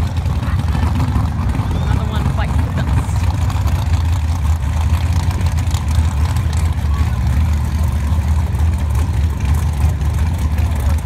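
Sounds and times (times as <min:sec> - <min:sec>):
car engine idling loudly: 0:00.0 - 0:11.0.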